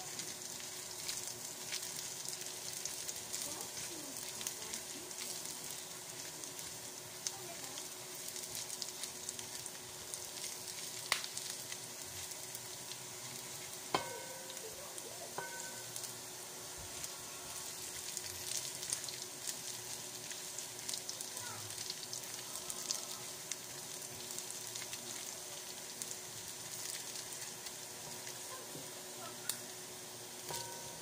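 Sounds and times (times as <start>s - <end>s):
garlic sizzling in hot oil: 0.0s - 31.0s
spatula stirring in pan: 0.0s - 31.0s.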